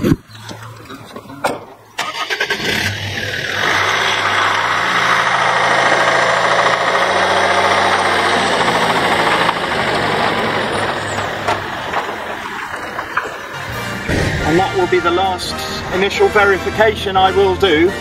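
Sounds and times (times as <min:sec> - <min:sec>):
van engine running: 0:00.0 - 0:18.0
tyres rolling over gravel: 0:00.3 - 0:18.0.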